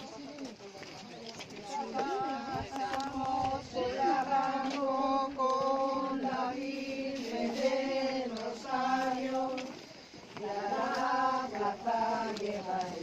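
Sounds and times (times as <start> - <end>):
women singing a hymn: 1.6 - 13.0.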